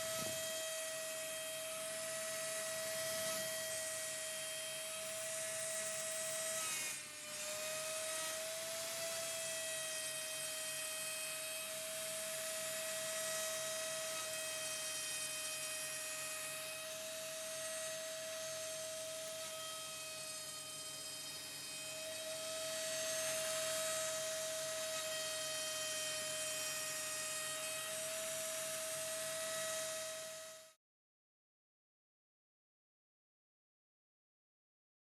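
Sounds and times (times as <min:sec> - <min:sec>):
bit cutting wood: 0:00.0 - 0:30.6
router spindle whining: 0:00.0 - 0:30.7.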